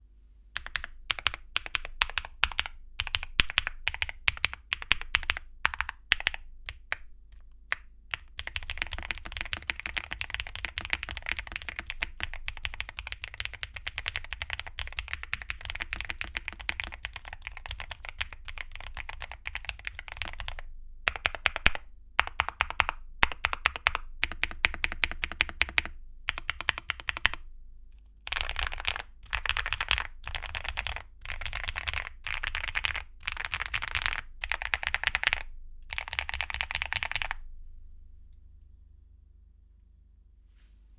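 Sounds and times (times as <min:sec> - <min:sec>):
mechanical keyboard typing: 0:00.6 - 0:27.4, 0:28.3 - 0:37.4.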